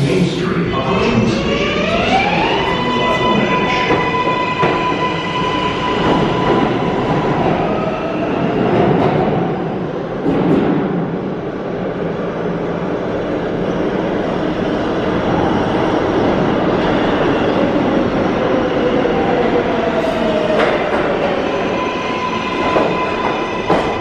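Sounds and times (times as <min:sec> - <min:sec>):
subway train wheels rumbling: 0:00.0 - 0:24.0.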